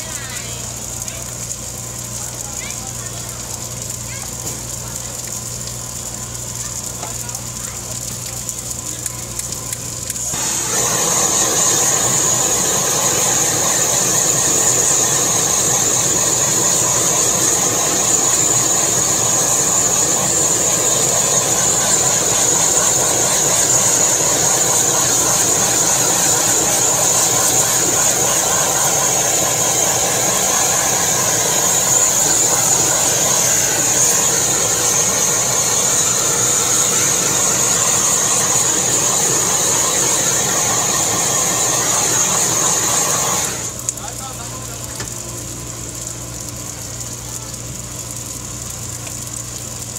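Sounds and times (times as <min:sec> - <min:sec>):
blowtorch hissing: 0:00.0 - 0:45.1.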